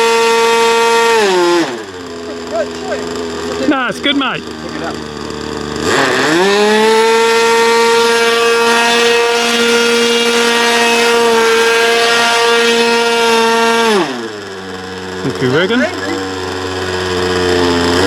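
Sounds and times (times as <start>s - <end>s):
model plane engine revving: 0.0s - 18.0s.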